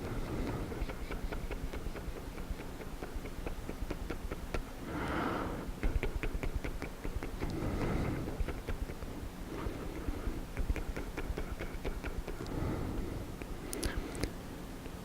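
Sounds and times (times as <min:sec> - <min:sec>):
wet lip and tongue clicks: 0:00.0 - 0:04.7, 0:05.8 - 0:09.1, 0:09.9 - 0:12.6, 0:13.4 - 0:15.0.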